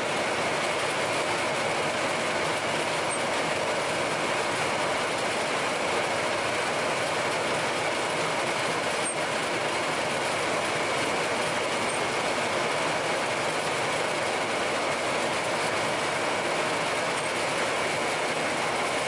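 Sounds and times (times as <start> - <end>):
log-rounding machine running: 0.0 - 19.0.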